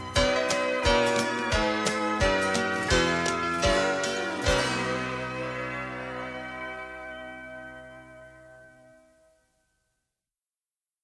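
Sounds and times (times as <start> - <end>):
held music chord ringing: 0.0 - 9.8.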